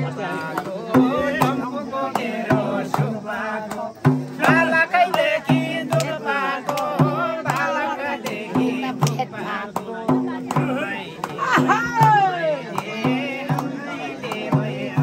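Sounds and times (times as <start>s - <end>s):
frame drum beating: 0.0s - 15.0s
people singing: 0.0s - 15.0s
hand clapping: 0.4s - 15.0s.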